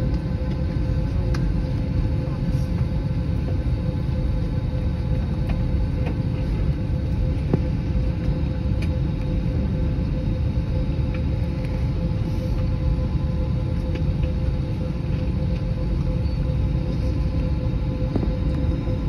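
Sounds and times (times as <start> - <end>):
aircraft cabin low rumble: 0.0 - 19.0.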